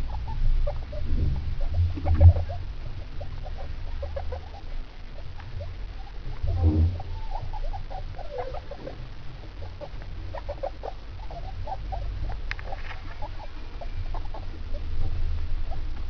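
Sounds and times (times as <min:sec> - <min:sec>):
guinea pigs chattering: 0:00.0 - 0:16.0.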